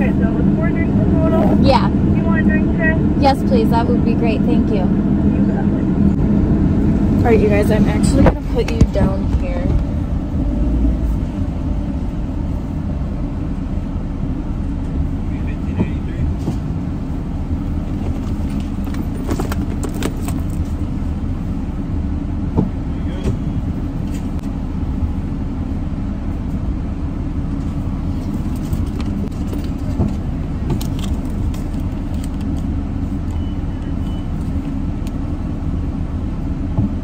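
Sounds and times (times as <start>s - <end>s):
car idling: 0.0s - 37.0s.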